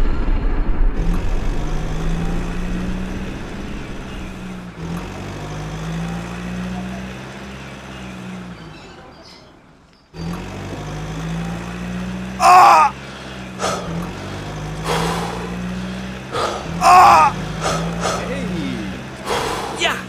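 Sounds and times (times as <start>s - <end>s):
truck engine humming: 1.0s - 20.0s.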